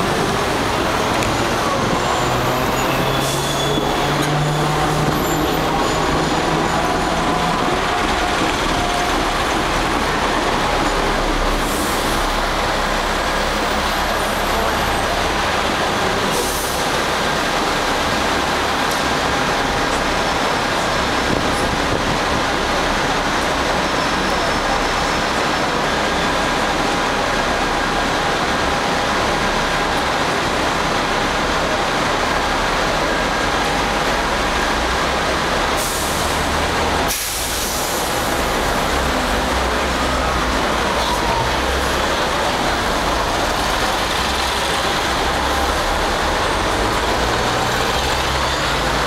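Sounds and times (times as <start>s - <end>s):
city traffic: 0.0s - 49.0s
tram running noise: 0.0s - 49.0s.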